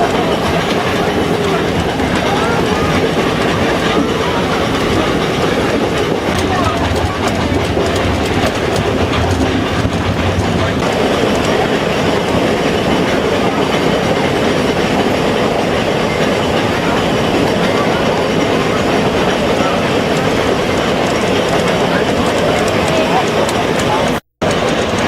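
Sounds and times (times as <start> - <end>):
train rumbling and clattering: 0.0 - 25.0.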